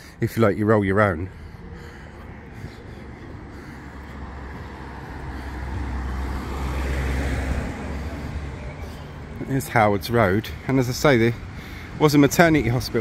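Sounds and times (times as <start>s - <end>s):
vehicle passing by: 1.0s - 13.0s.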